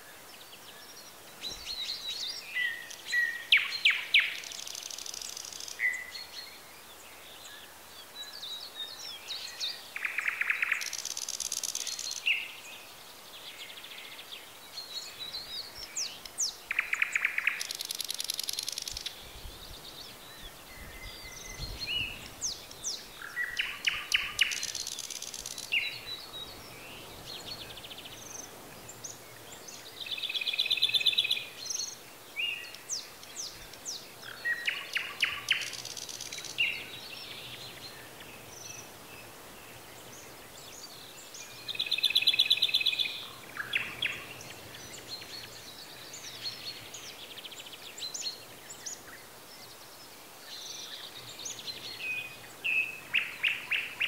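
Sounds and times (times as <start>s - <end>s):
faint background hiss: 0.0s - 54.0s.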